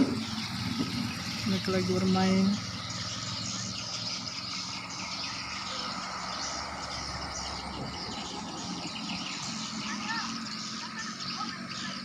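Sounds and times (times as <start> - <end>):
low steady rumble: 0.0 - 12.0
swiftlets twittering: 0.0 - 12.0.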